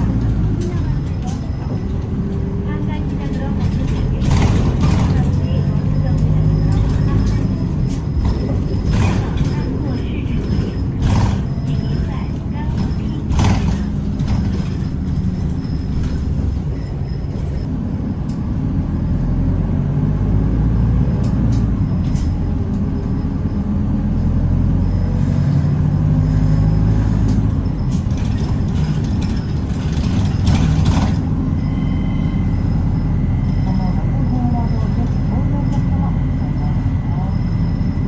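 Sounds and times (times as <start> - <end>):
bus body clicks and rattles: 0.0 - 38.0
bus diesel engine rumble: 0.0 - 38.0
road noise inside bus: 0.0 - 38.0.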